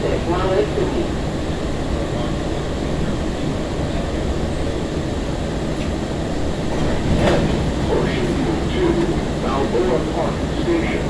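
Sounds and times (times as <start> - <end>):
rail car rumble and hiss: 0.0 - 11.0.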